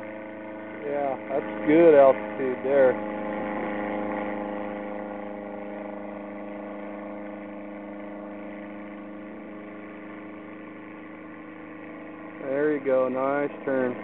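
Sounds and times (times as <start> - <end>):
ultralight engine droning overhead: 0.0 - 14.0.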